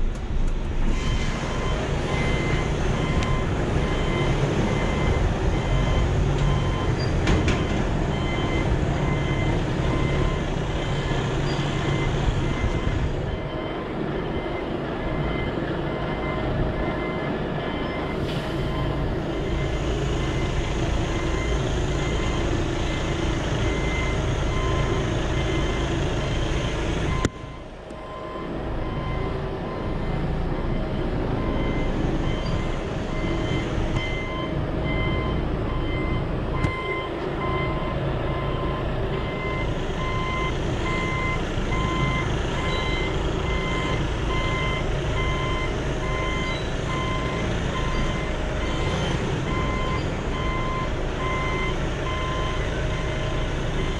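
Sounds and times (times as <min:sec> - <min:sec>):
diesel engine running: 0:00.0 - 0:53.9
truck reversing alarm beeping: 0:00.9 - 0:53.9.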